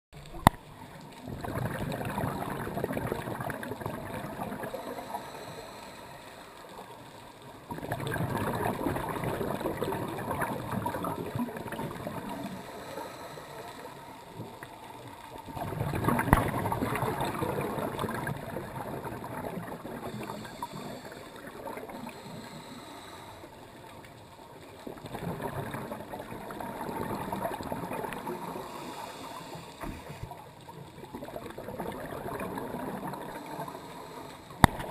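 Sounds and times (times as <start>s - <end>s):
underwater exhaled bubbles: 0.2s - 34.9s
underwater water hiss: 1.4s - 25.5s, 26.4s - 30.9s, 32.0s - 34.9s.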